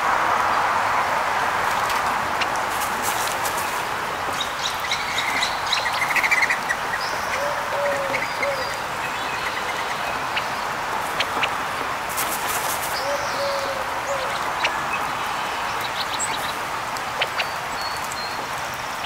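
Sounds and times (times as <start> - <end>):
steady background noise: 0.0 - 19.0
small birds chirping: 1.7 - 19.0.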